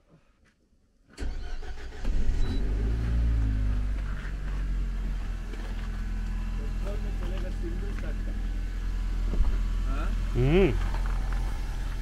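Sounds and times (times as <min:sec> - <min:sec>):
car engine starting and idling: 0:01.1 - 0:12.0.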